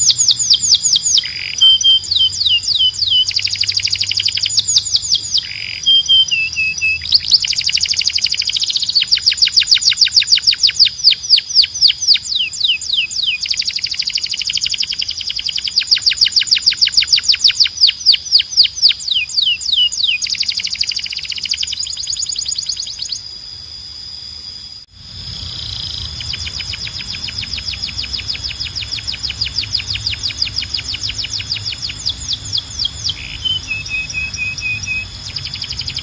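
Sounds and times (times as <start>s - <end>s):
canary singing: 0.0s - 23.5s, 25.0s - 36.0s.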